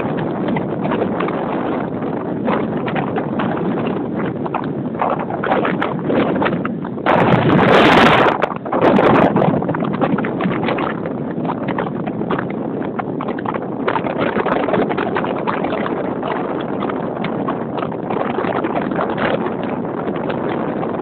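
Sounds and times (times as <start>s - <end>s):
wind rush: 0.0s - 21.0s.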